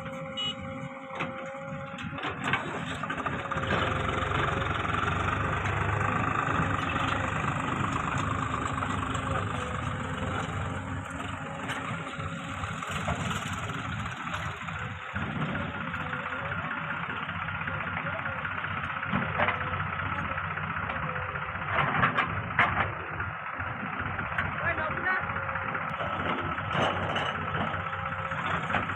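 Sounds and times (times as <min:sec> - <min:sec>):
diesel engines running: 0:00.0 - 0:28.9.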